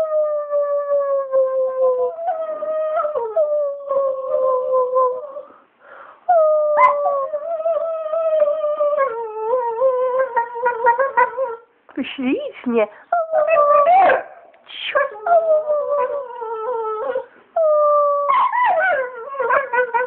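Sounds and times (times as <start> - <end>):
dog howling: 0.0 - 5.5, 6.3 - 11.6, 13.2 - 14.4, 15.0 - 20.0.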